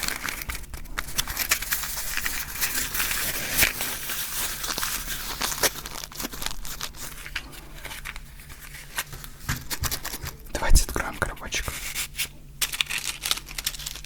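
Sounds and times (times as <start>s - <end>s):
crinkling handling noise: 0.0s - 14.0s.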